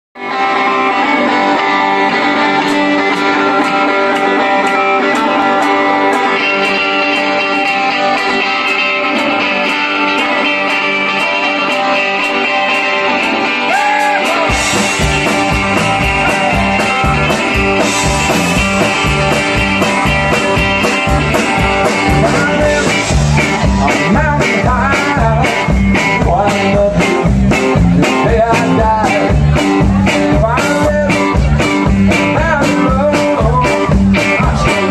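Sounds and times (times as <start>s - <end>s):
bass guitar: 0.2s - 34.9s
drums: 0.2s - 34.9s
electric guitars: 0.2s - 34.9s.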